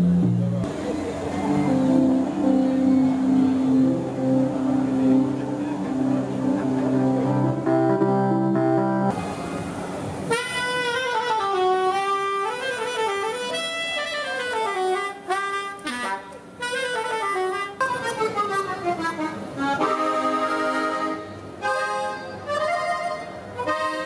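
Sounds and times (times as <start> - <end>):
saxophone melody: 1.4 - 9.1, 10.3 - 24.0
button accordion held notes: 1.5 - 9.1, 10.3 - 24.0.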